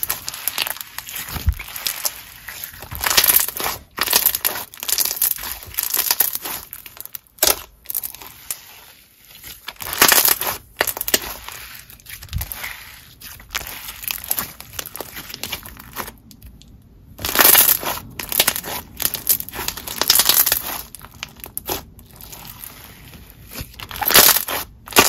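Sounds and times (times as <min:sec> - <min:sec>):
slime squelching and popping: 0:00.0 - 0:25.0.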